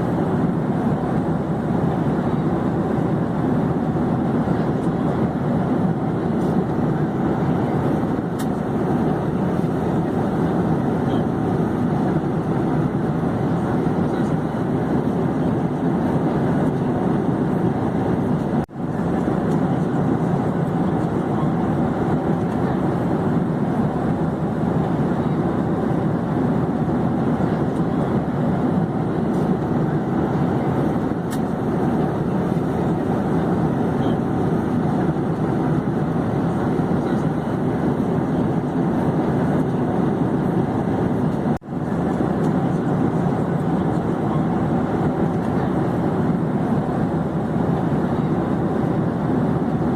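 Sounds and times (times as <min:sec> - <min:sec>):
airplane engine drone: 0:00.0 - 0:49.9.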